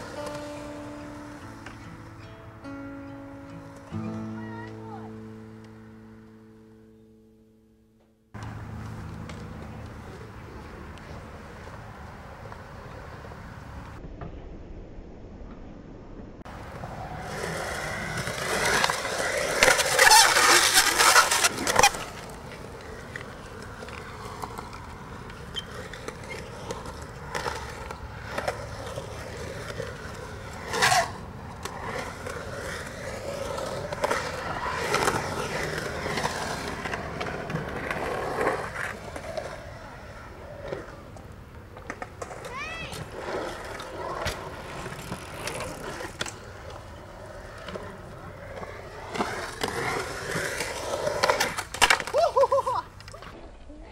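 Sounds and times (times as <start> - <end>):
skateboard wheels rolling on concrete: 0.0 - 6.4, 8.0 - 14.6, 15.4 - 53.9.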